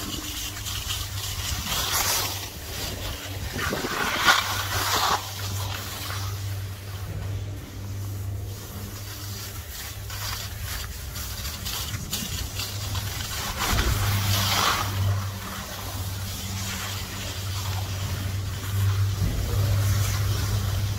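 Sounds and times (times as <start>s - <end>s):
skis scraping on snow: 0.0s - 20.9s
steady low hum: 0.0s - 20.9s.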